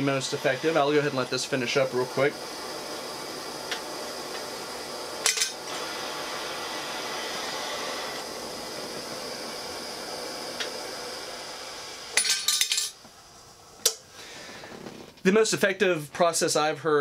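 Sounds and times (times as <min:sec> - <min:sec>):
torch flame hissing: 0:00.0 - 0:15.2.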